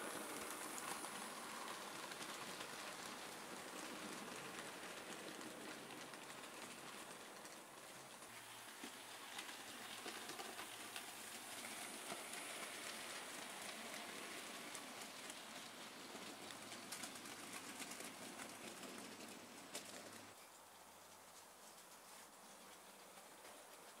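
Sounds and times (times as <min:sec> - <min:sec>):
metal wheels rattling on rails: 0:00.0 - 0:20.4.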